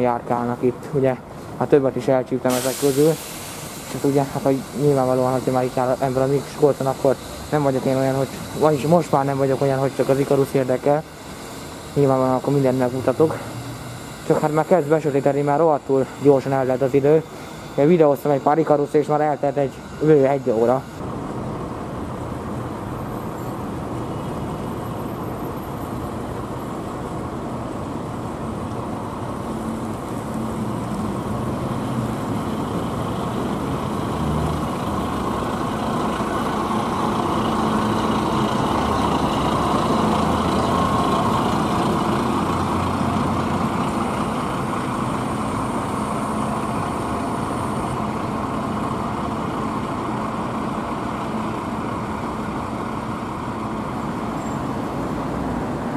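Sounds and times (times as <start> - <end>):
bus engine driving past: 0.0 - 55.9
other buses running: 0.0 - 55.9.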